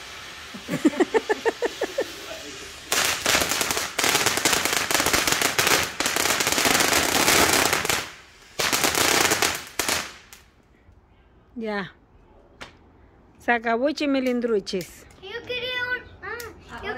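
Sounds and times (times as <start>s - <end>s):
ground fountain firework crackling: 0.0s - 10.8s, 12.6s - 16.9s.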